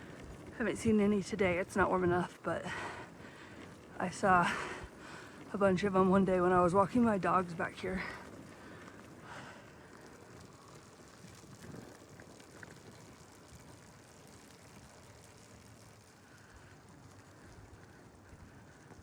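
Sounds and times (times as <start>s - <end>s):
bicycle rolling on road: 0.0s - 19.0s.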